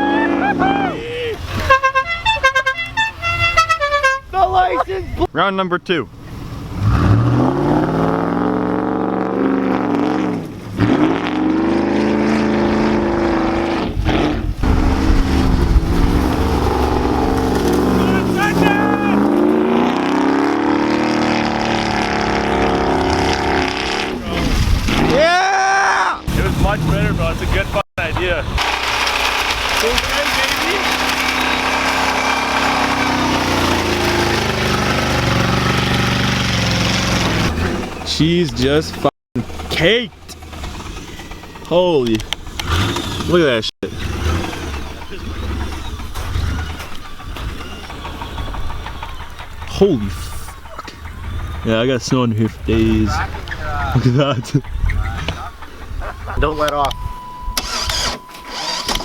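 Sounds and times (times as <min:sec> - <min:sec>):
truck engine revving: 0:00.0 - 0:04.2, 0:06.1 - 0:25.4, 0:26.2 - 0:59.0.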